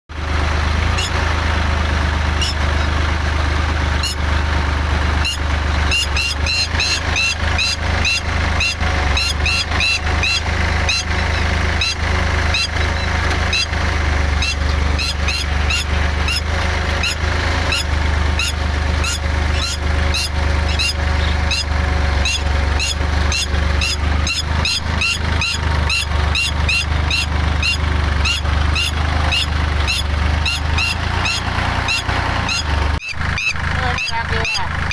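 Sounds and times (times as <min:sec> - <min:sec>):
tractor engine running: 0:00.1 - 0:34.9
bird shrill alarm calls: 0:02.4 - 0:02.6, 0:04.0 - 0:04.2, 0:05.2 - 0:13.8, 0:14.4 - 0:34.9.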